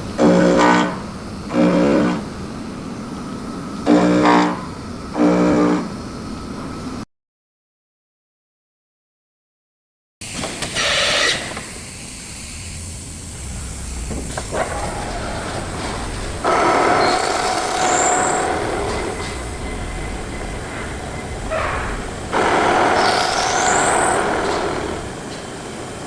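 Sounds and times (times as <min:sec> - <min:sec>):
machining centre running: 0:00.0 - 0:07.0, 0:10.2 - 0:26.0
steady machine whine: 0:00.0 - 0:07.0, 0:10.4 - 0:26.0.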